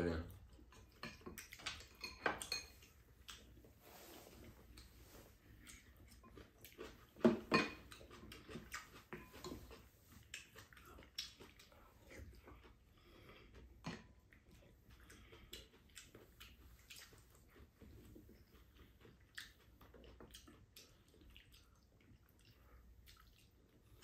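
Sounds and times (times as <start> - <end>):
chewing: 0.3 - 24.0.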